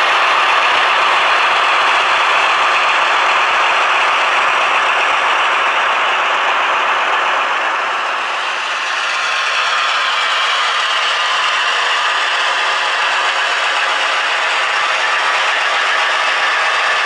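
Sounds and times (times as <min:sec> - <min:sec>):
model train rattling whir: 0:00.0 - 0:17.0.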